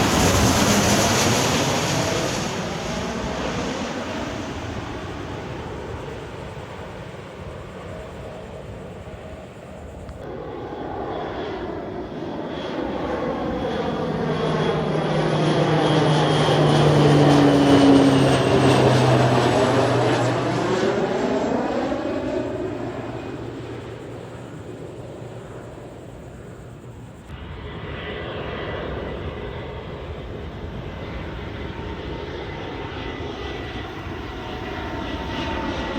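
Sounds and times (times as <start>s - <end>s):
airplane passing overhead: 0.0s - 35.9s.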